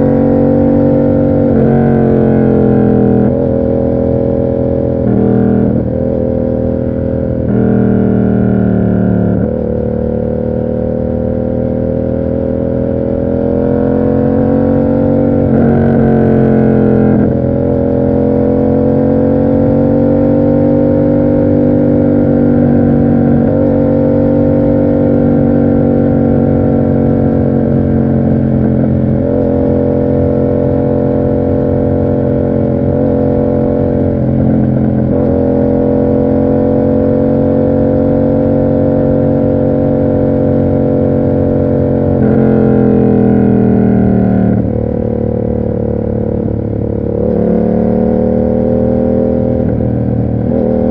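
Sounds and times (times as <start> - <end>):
motorcycle engine cruising: 0.0 - 50.9.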